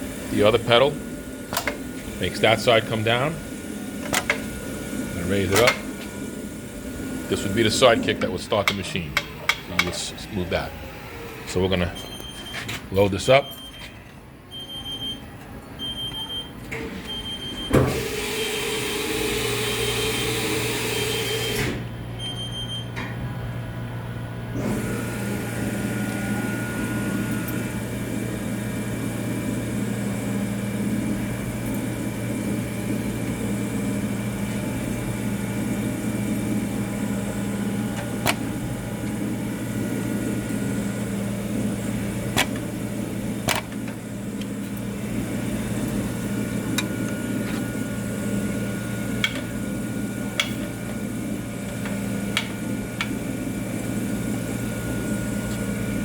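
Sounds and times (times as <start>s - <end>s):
machine humming steadily: 0.0s - 56.0s.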